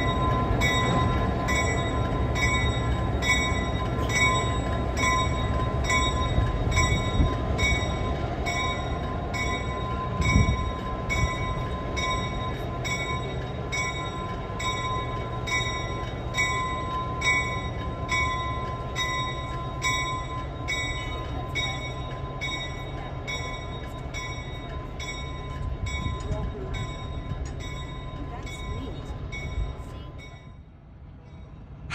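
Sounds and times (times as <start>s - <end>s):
diesel locomotive engine rumble: 0.0s - 31.9s
locomotive bell ringing: 0.0s - 31.9s.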